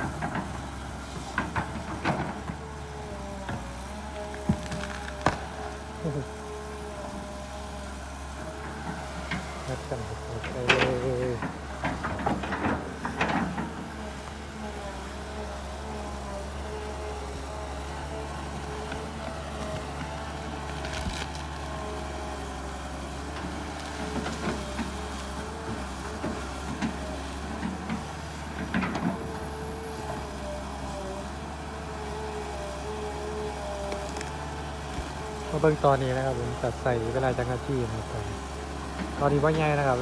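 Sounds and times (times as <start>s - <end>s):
excavator engine drone: 0.0s - 40.0s.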